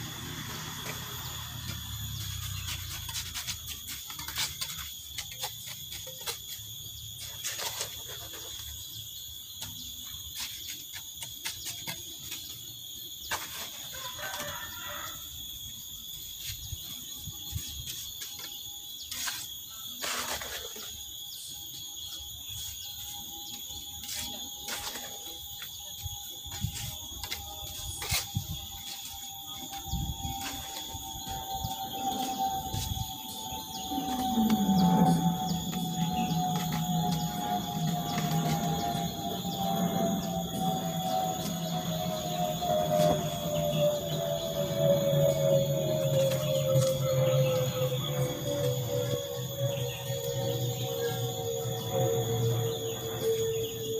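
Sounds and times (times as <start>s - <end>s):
high-pitched whine: 0.0s - 10.8s, 11.5s - 53.9s.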